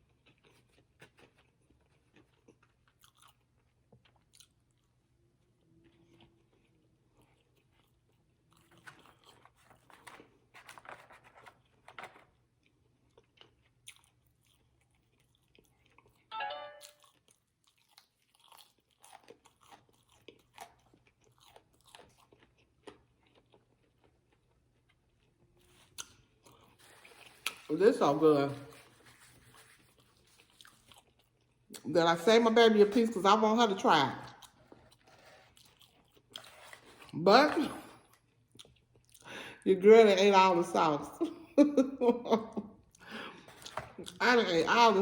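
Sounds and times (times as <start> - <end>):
chewing crunchy fried food: 0.0 - 16.3, 17.0 - 27.7, 28.6 - 31.9, 34.2 - 39.6, 42.8 - 44.2.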